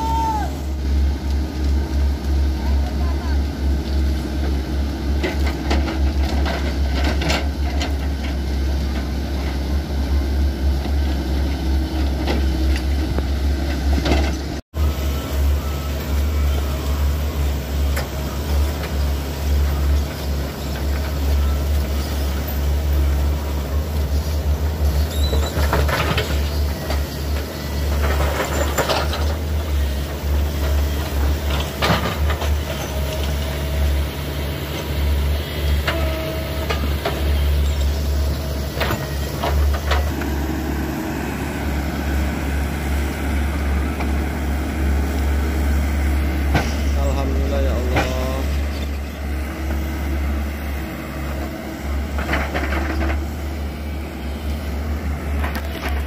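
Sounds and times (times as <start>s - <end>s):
excavator engines running: 0.0s - 56.0s.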